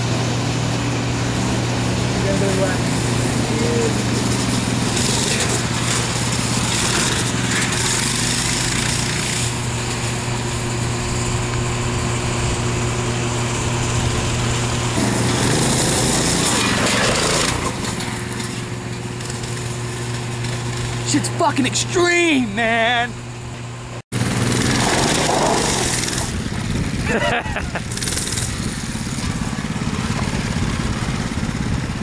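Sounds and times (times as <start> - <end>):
small gasoline engine running: 0.0 - 22.8, 24.1 - 32.0.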